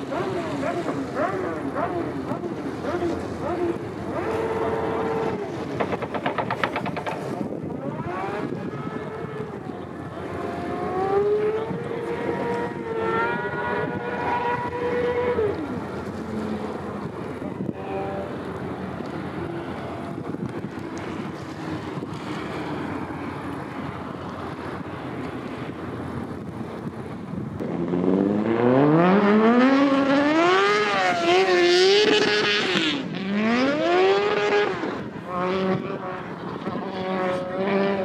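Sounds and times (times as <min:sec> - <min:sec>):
engine speeding up: 0:00.0 - 0:38.0
wind: 0:00.0 - 0:38.0.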